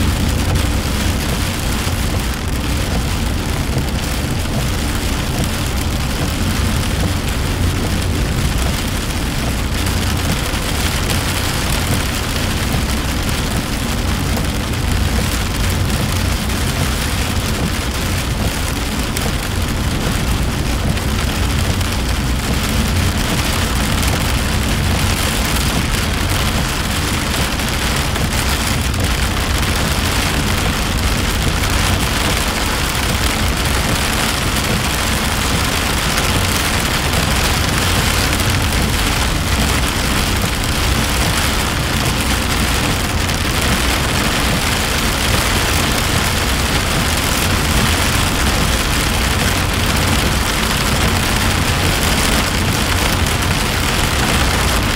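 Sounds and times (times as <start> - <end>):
rain hitting car windshield: 0.0 - 54.9
road and engine rumble: 0.0 - 54.9.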